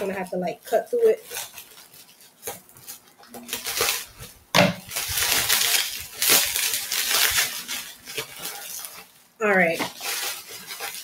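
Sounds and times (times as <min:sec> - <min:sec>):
scissors cutting packaging: 0:00.0 - 0:04.2, 0:04.9 - 0:11.0
bubble wrap crinkling: 0:00.0 - 0:11.0.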